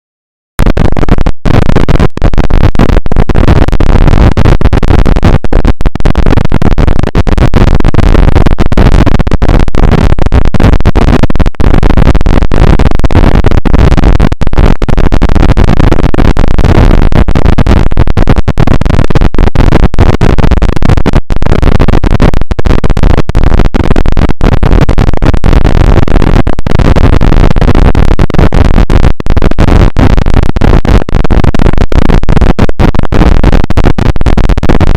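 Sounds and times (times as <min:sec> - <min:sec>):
harsh distorted noise: 0:00.6 - 0:34.9.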